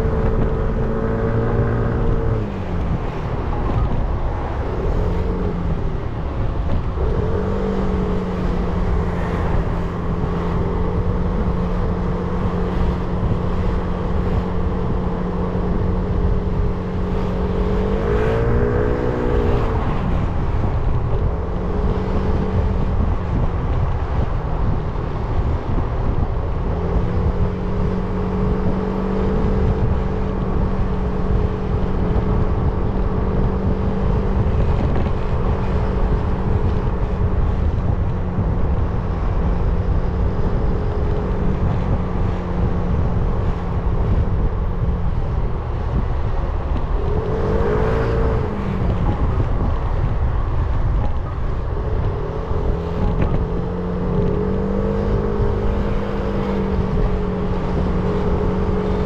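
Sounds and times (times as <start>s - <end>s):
motorcycle engine cruising: 0.0s - 59.0s
wind rush on microphone: 0.0s - 59.0s.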